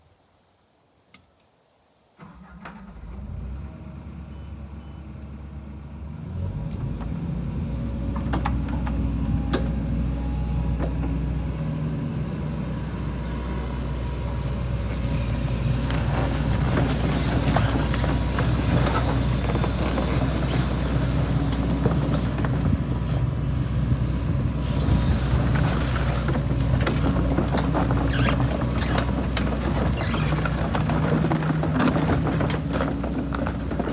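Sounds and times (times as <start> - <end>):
diesel engine starting and running: 2.2 - 33.9.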